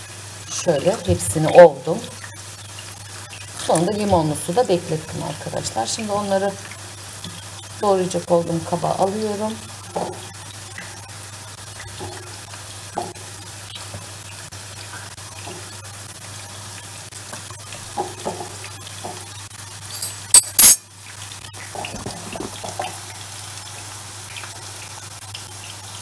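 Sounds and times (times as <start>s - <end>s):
faint frying sizzle: 0.0s - 26.0s.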